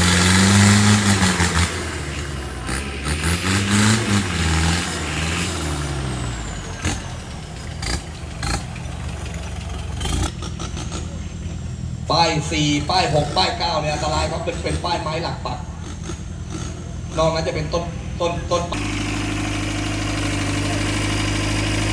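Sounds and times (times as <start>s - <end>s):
pickup engine revving: 0.0s - 21.9s.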